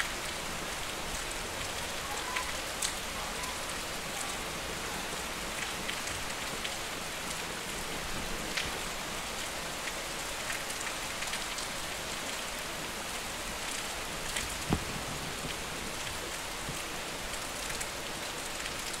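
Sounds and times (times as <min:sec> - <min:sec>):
raindrops tapping close by: 0:00.0 - 0:19.0
steady rain falling: 0:00.0 - 0:19.0.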